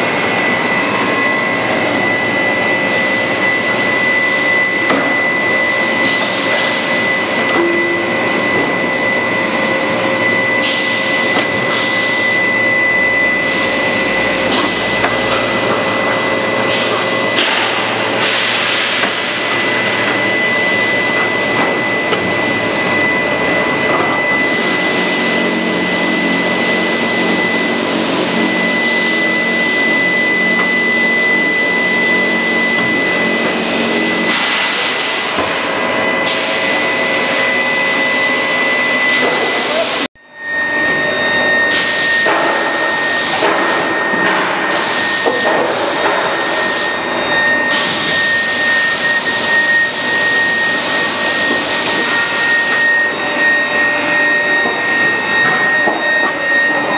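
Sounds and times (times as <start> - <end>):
factory machinery running: 0.0 - 56.9
high-pitched machine whine: 0.0 - 56.9.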